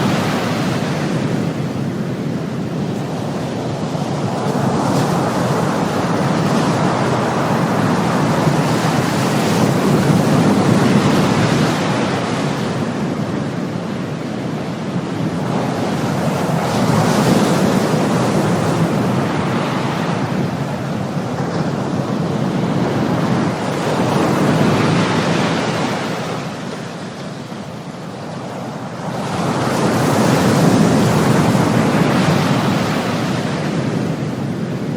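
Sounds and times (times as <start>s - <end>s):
ocean waves washing: 0.0s - 34.9s.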